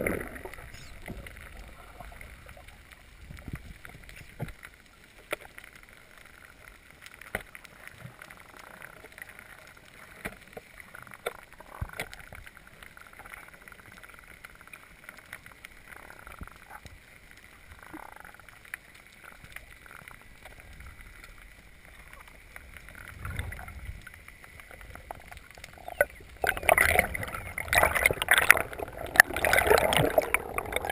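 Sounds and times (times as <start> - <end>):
low underwater hiss: 0.0 - 30.9
sharp clicks and crackles: 0.0 - 30.9.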